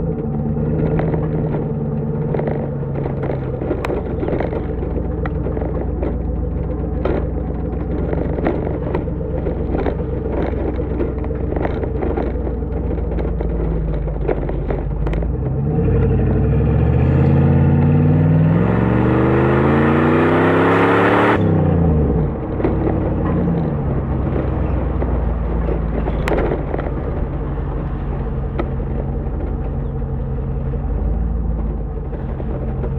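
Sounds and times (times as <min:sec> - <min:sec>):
car engine cruising and accelerating: 0:00.0 - 0:32.9.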